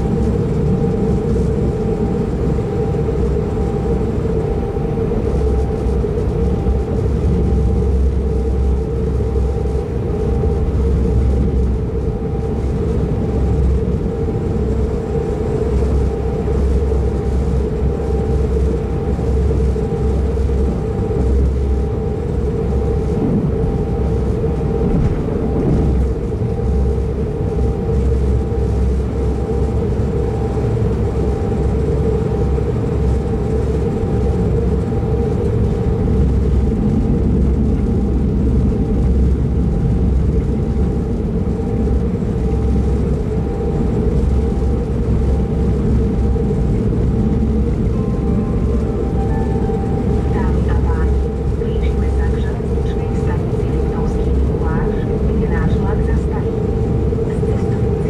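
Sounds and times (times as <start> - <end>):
constant hum: 0.0 - 58.0
faint whine: 0.0 - 58.0
train wheels rumbling on rail: 0.0 - 58.0.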